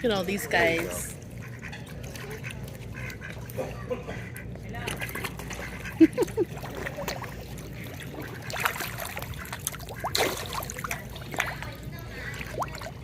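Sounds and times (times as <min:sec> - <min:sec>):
fish splashing and slurping: 0:00.0 - 0:13.0.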